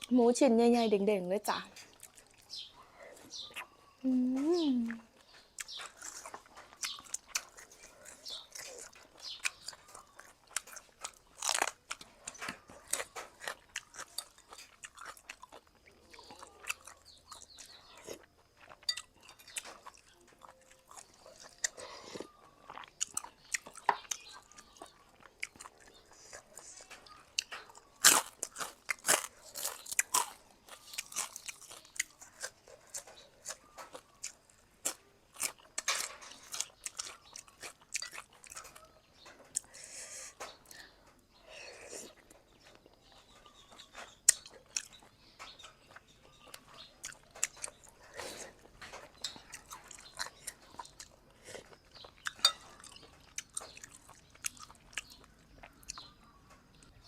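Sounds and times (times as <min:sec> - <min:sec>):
close chewing and biting: 0:01.8 - 0:03.8, 0:04.8 - 0:57.0.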